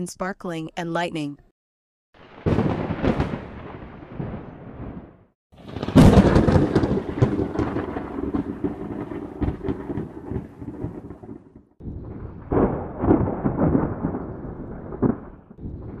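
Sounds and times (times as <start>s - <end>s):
thunder rumbling and cracking: 2.2s - 16.0s.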